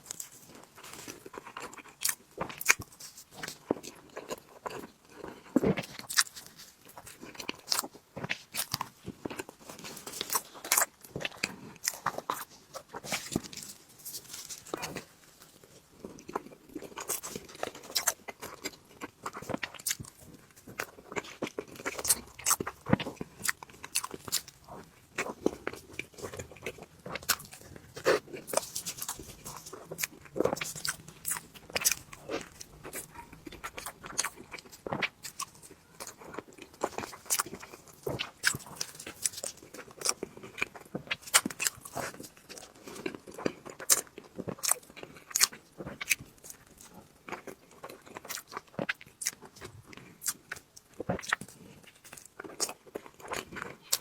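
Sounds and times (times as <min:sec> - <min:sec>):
close mouth chewing sounds: 0:00.0 - 0:54.0.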